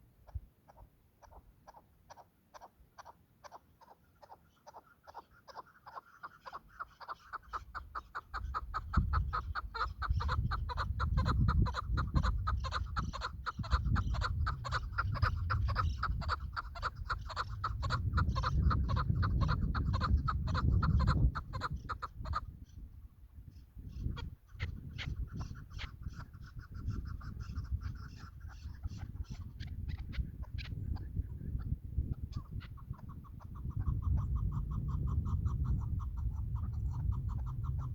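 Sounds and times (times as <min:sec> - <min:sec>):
partridge clucking calls: 0:00.2 - 0:22.8, 0:23.4 - 0:37.9.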